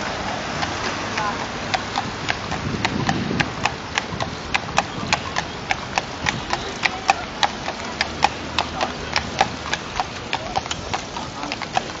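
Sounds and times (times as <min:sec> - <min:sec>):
hooves clip-clopping on asphalt: 0:00.0 - 0:12.0
steady background noise: 0:00.0 - 0:12.0.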